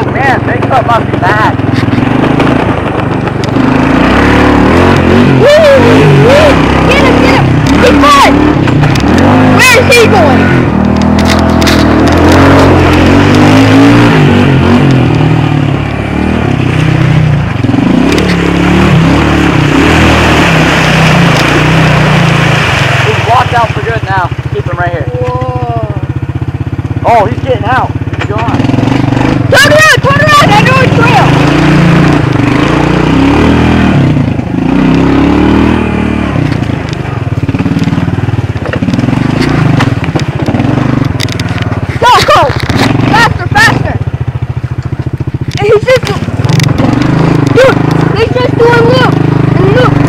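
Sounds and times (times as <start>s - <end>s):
quad engine revving: 0.0s - 50.0s.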